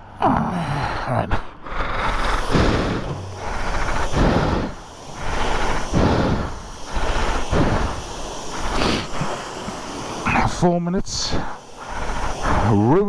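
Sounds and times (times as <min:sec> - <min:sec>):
pressure washer spraying water: 0:02.0 - 0:13.0.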